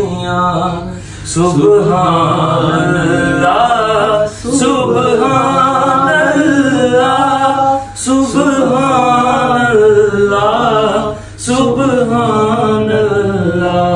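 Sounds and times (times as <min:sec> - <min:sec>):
men singing a cappella: 0:00.0 - 0:13.9.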